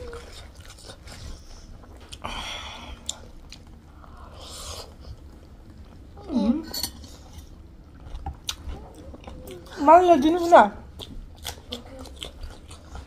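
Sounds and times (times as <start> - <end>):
person chewing: 0.0 - 6.1, 7.0 - 9.8, 10.9 - 13.0.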